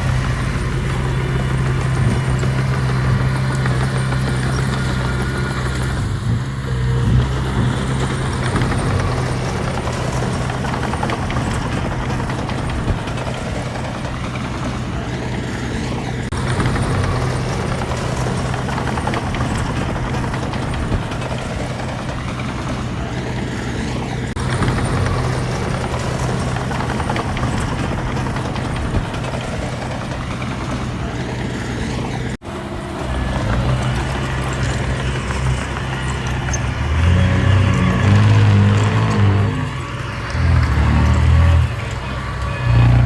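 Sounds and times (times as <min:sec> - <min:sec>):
diesel engine humming: 0:00.0 - 0:43.0.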